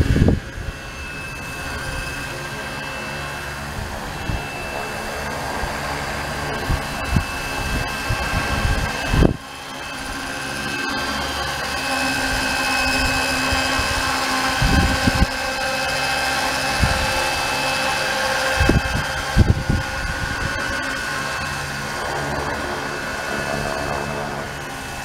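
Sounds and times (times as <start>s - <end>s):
model helicopter whine: 0.0s - 25.0s
rotor whirring: 0.0s - 25.0s.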